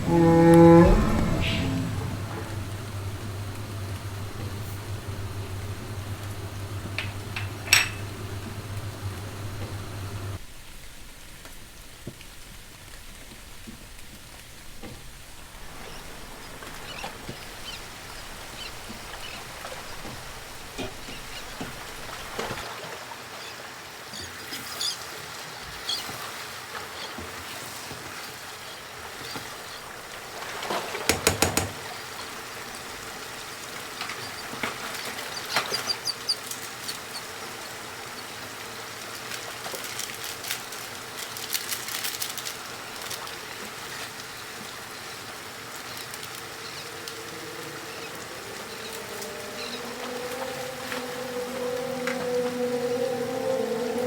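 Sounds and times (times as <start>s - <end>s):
steady cooking hiss: 2.1s - 52.4s.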